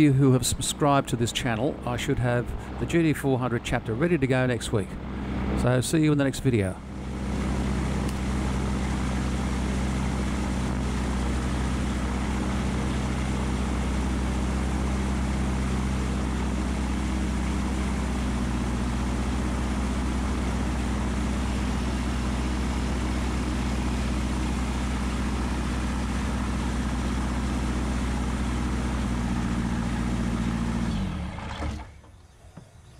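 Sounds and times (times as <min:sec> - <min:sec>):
engine and propeller idling: 0:00.0 - 0:32.9.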